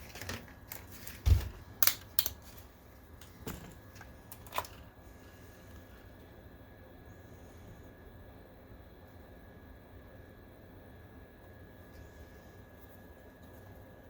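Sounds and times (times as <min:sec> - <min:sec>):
faint cooling fan hum: 0:00.0 - 0:14.0.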